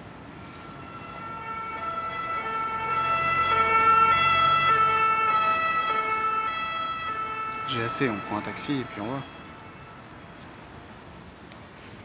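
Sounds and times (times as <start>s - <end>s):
two-tone emergency siren: 0.3s - 10.7s.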